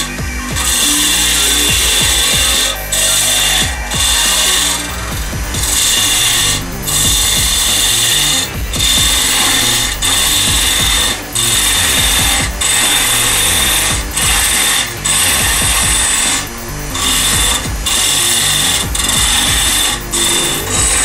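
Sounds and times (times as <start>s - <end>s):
lathe high whine: 0.0s - 21.0s
lathe tool scraping wood: 0.0s - 21.0s.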